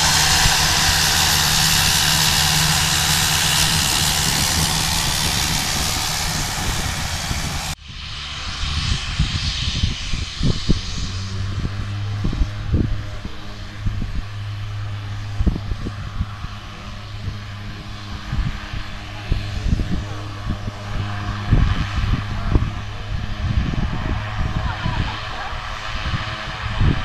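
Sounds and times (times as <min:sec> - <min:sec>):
faint aircraft sound: 0:00.0 - 0:27.0
steady low hum: 0:00.0 - 0:27.0
turboprop engines running loud: 0:00.0 - 0:27.0
wind bumping microphone: 0:00.0 - 0:27.0.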